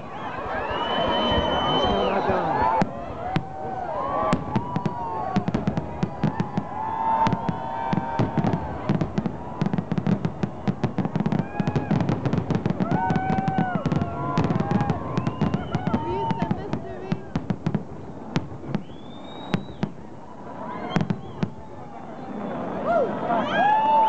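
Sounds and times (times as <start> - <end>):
firework whistling tones: 0.0 - 2.8, 4.2 - 16.8, 18.0 - 23.0
firework bangs and crackles: 0.0 - 24.0.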